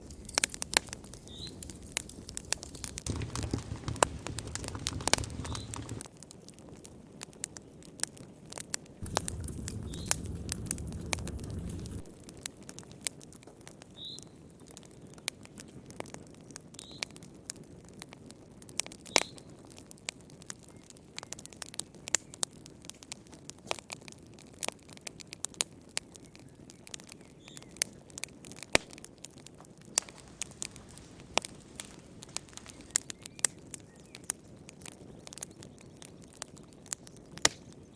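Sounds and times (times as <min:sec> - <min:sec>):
soft hiss of burning: 0:00.0 - 0:37.9
wood fire crackling: 0:00.0 - 0:37.9.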